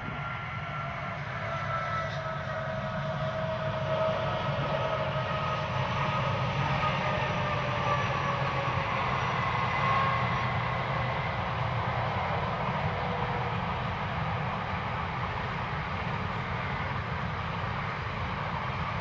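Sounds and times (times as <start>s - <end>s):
faint whining tones: 0.0s - 19.0s
steel wheels rumbling on rails: 0.0s - 19.0s.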